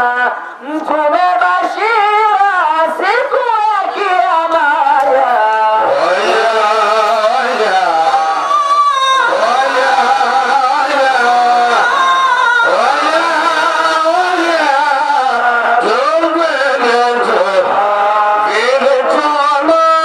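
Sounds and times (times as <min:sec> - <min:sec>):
person singing devotional song: 0:00.0 - 0:20.0.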